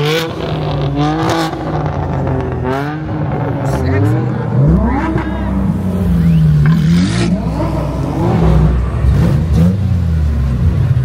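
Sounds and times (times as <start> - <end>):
car engines revving: 0.0 - 11.0
engines running nearby: 0.0 - 11.0.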